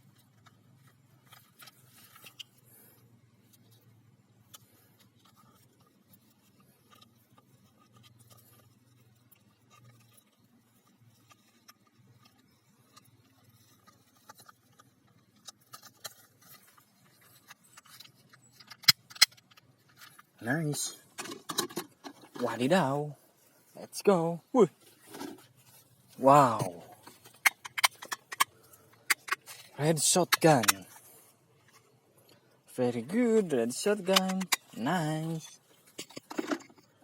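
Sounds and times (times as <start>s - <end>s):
faint clicks and rustles: 0.0s - 37.0s.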